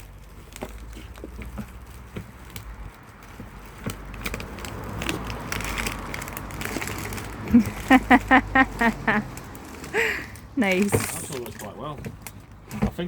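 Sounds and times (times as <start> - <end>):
rubbish crackling and crunching: 0.0 - 13.0.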